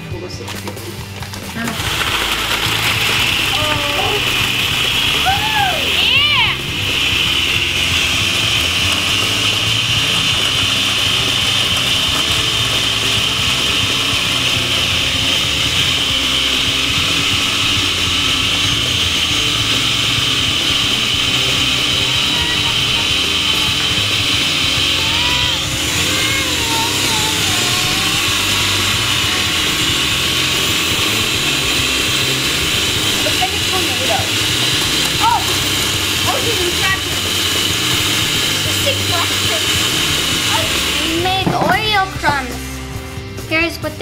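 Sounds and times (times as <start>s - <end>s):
food processor whining: 0.0s - 44.0s.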